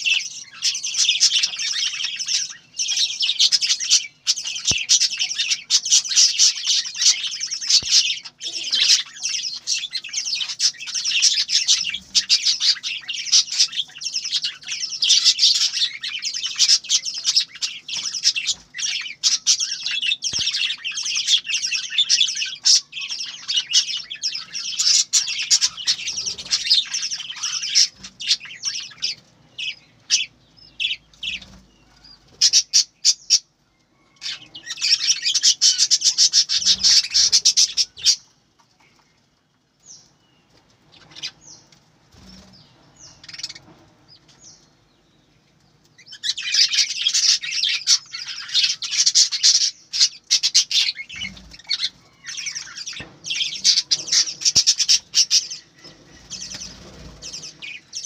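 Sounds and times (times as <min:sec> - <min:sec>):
budgerigars chirping: 0:00.0 - 0:33.5, 0:34.2 - 0:38.3, 0:40.9 - 0:44.8, 0:45.9 - 0:58.0.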